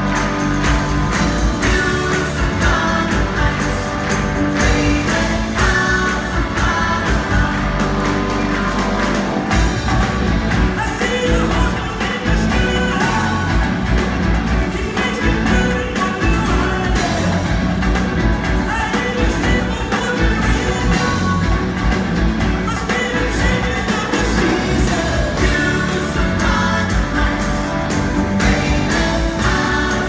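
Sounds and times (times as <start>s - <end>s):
lead vocals singing: 0.0s - 17.8s, 18.4s - 30.0s
live rock band playing: 0.0s - 30.0s.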